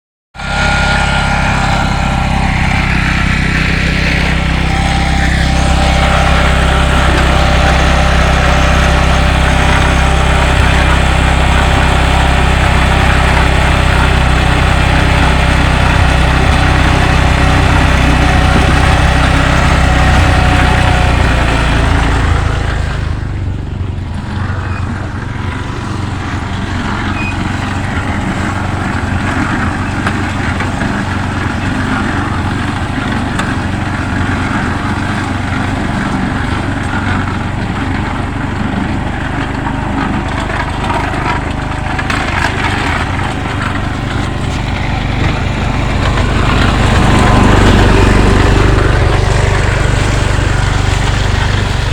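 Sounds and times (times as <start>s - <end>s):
concrete mixer engine running: 0.3s - 51.9s.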